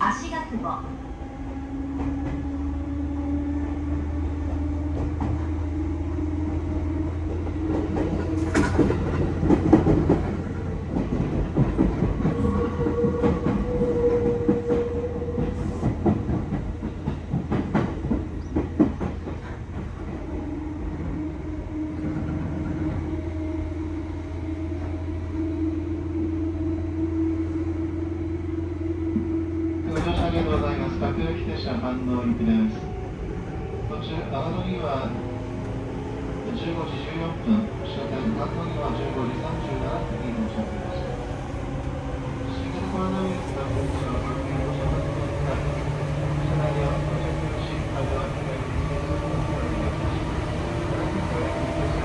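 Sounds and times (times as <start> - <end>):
electric train hum: 0.0 - 52.0.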